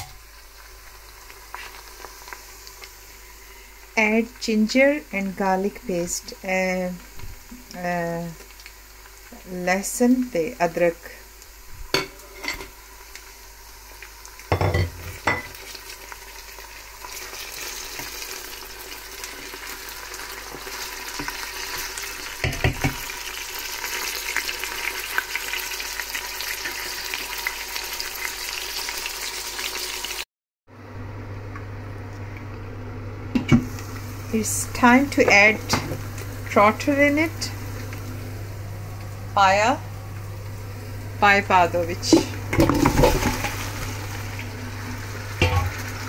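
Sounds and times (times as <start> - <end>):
onions sizzling in oil: 0.0 - 30.2, 33.4 - 46.0.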